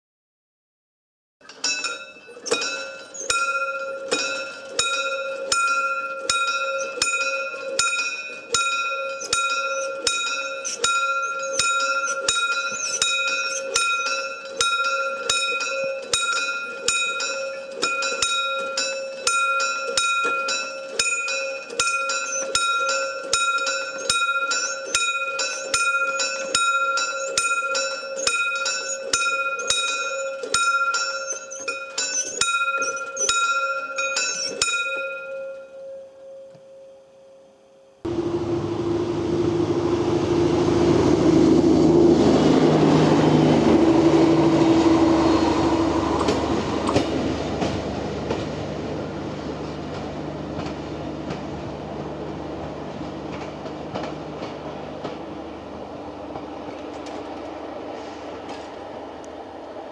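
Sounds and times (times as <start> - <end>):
level crossing warning bells: 1.6 - 57.3.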